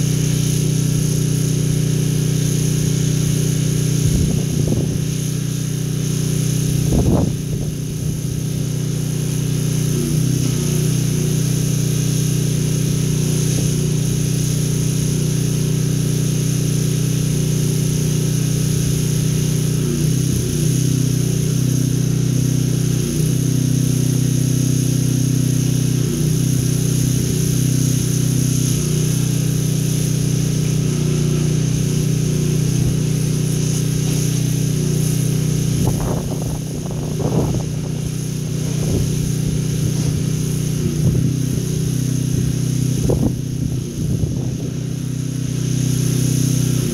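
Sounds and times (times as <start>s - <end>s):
pressure washer engine running: 0.0s - 46.9s.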